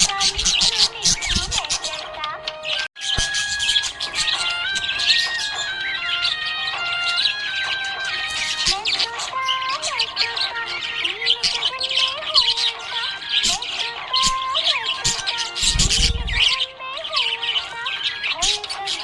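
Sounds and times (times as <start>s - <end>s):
background music: 0.0s - 19.0s
budgerigars chirping: 0.0s - 19.0s.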